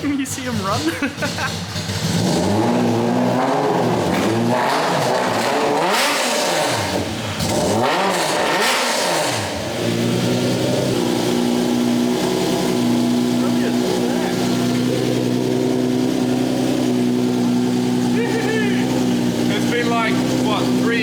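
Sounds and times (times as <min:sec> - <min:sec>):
race car engine revving and idling: 0:00.0 - 0:21.0.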